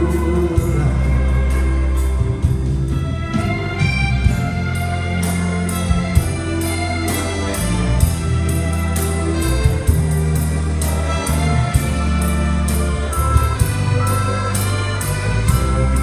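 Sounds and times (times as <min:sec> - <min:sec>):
orchestra playing: 0:00.0 - 0:16.0.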